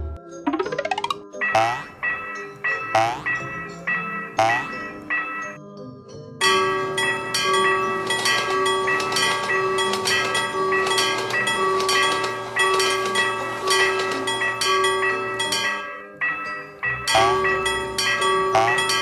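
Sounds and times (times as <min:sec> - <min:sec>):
crossing warning bell ringing: 0:01.4 - 0:05.6, 0:06.4 - 0:19.0.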